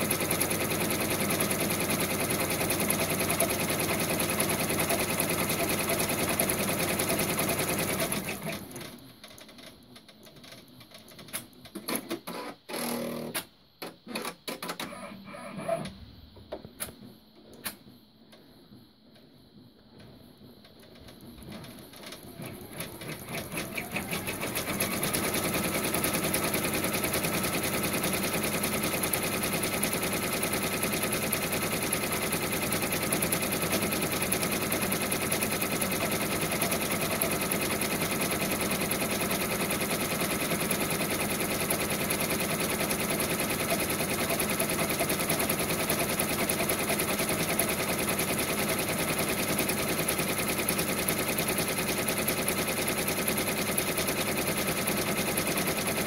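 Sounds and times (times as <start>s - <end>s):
embroidery machine stitching: 0.0s - 9.6s, 10.3s - 16.0s, 20.8s - 56.0s.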